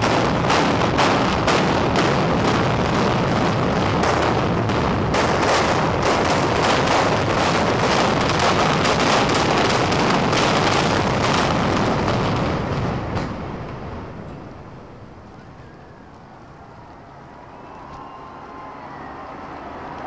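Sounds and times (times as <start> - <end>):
demolition blasts rattling: 0.0 - 16.2.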